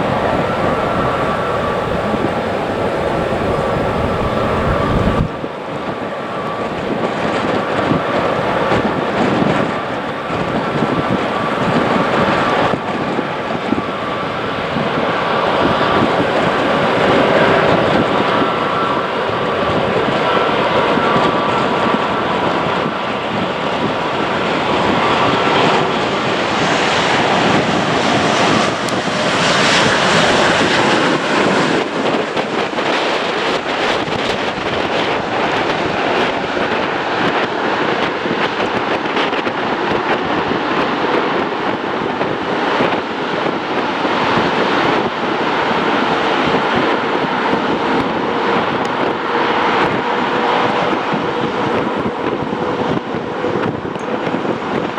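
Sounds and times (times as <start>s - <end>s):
jet engines whining: 0.0s - 54.9s.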